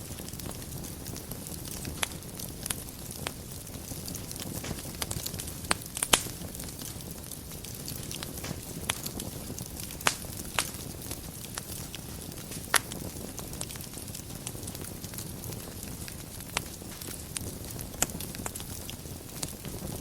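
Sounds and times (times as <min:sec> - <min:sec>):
burning wood popping: 0:00.0 - 0:20.0
wood fire crackling: 0:00.0 - 0:20.0.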